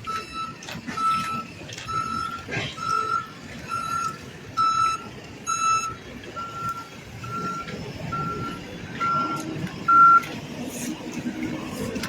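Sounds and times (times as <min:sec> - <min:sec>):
vehicle backup alarm beeping: 0:00.0 - 0:10.4
engine rumbling: 0:00.0 - 0:12.0.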